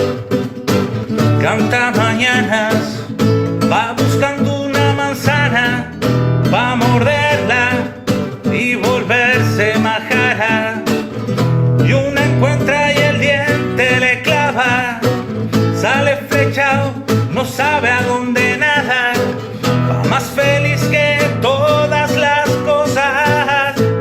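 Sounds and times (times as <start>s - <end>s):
guitar accompaniment: 0.0s - 24.0s
person singing: 1.3s - 24.0s.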